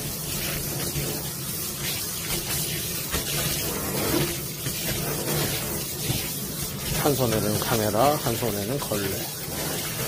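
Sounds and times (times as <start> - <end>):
water running into a sink: 0.0 - 10.0
wet cloth wiping: 0.0 - 10.0.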